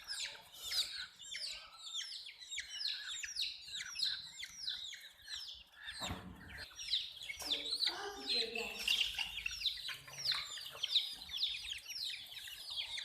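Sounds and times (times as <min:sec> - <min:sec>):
baby chicks peeping: 0:00.0 - 0:13.0.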